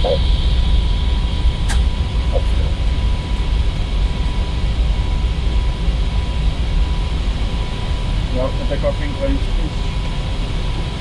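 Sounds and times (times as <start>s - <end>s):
airflow and engine rumble: 0.0s - 11.0s.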